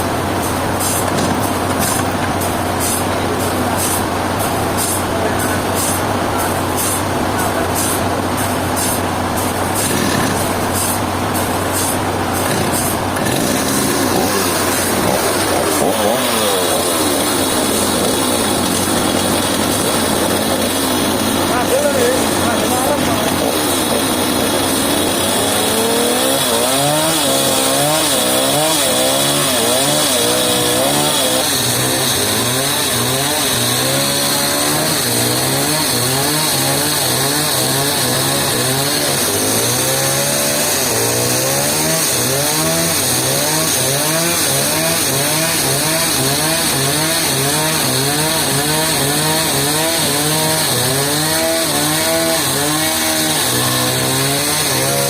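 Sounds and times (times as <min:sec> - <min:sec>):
power saw cutting timber: 0:00.0 - 0:55.0.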